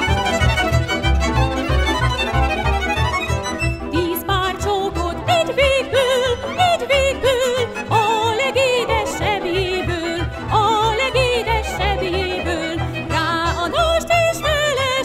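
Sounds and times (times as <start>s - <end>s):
lead melody with wide vibrato: 0.0s - 13.8s.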